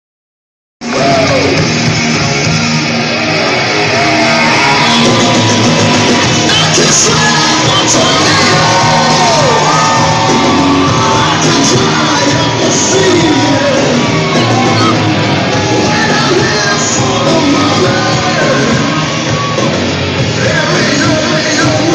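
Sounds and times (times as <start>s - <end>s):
crowd shouting and yelling: 0.8s - 21.9s
entrance music over loudspeakers: 0.8s - 21.9s.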